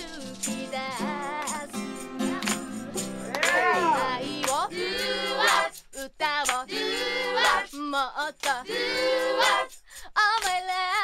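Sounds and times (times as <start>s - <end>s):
woman singing pop: 0.0s - 11.0s.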